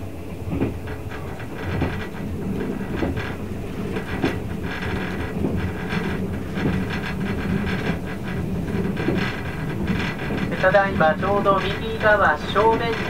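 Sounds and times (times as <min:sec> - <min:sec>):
train wheels rumbling on rails: 0:00.0 - 0:13.0
sharp clicks from track: 0:00.5 - 0:13.0.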